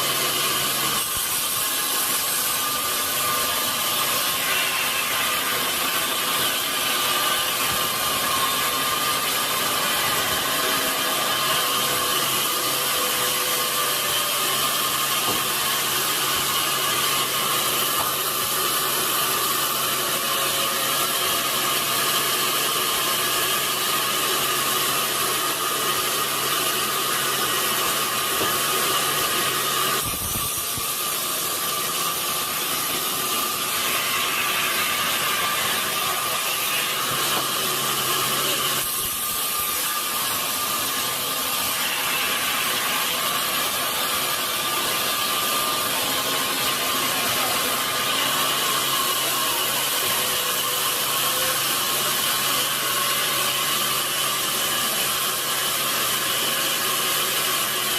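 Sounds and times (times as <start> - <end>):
sawmill saw cutting log: 0.0 - 57.9.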